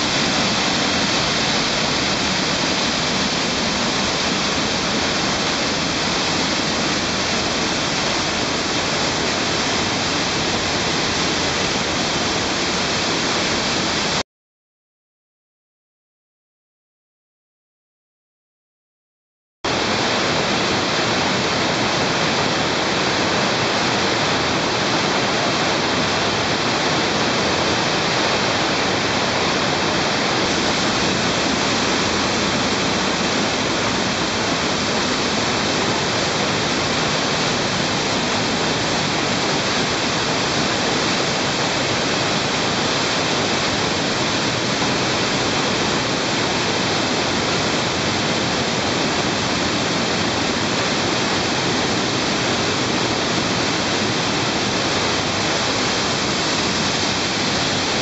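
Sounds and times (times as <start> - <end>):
water rushing down rocky cascade: 0.0 - 14.2, 19.7 - 58.0.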